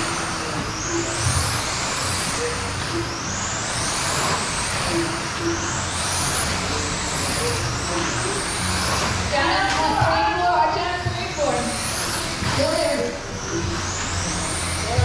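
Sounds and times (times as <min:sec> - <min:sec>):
rc car motors whining: 0:00.0 - 0:15.0
steady rushing noise: 0:00.0 - 0:15.0.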